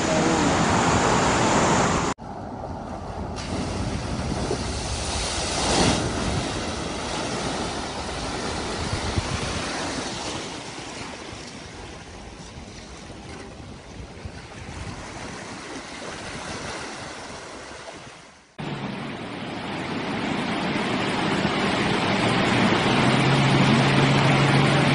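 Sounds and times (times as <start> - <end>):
rushing river water: 0.0 - 2.2, 3.4 - 24.9.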